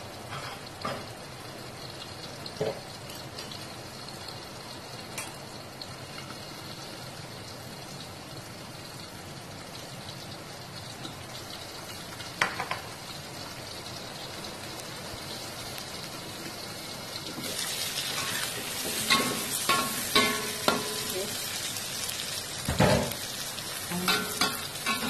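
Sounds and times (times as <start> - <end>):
oil sizzling in a wok: 0.0 - 25.0.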